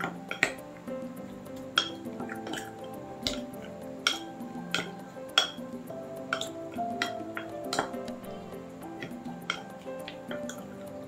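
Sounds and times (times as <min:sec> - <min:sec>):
spoon clinking glass bowl: 0:00.0 - 0:00.6, 0:01.6 - 0:11.0
background music: 0:00.0 - 0:11.0.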